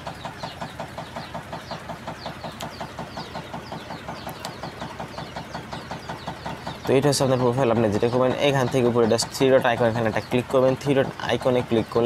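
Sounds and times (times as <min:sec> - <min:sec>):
fast pulsing mechanical sound: 0:00.0 - 0:12.0.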